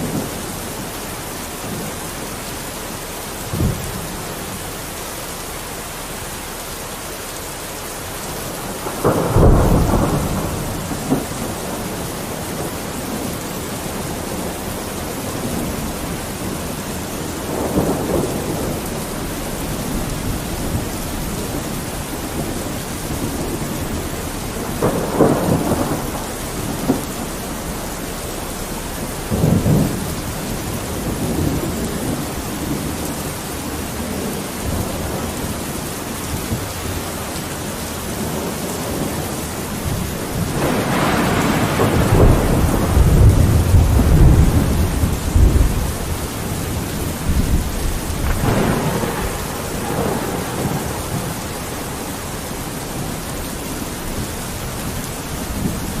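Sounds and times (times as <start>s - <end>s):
thunder rumbling: 0.0s - 6.3s, 7.9s - 56.0s
steady rain: 0.0s - 56.0s.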